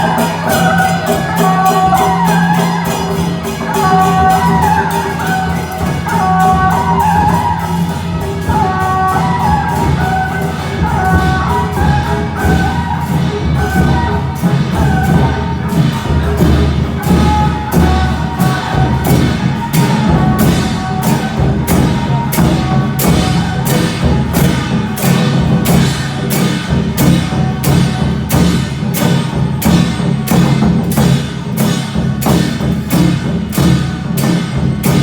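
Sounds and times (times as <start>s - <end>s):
drums: 0.0s - 35.0s
metallic percussion strokes: 0.0s - 35.0s.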